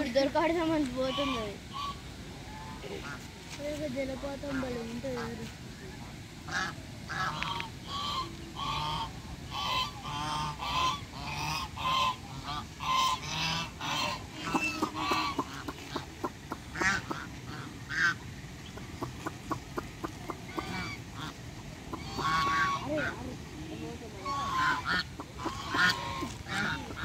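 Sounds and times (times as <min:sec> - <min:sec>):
geese honking: 0:01.0 - 0:03.2, 0:06.5 - 0:27.0.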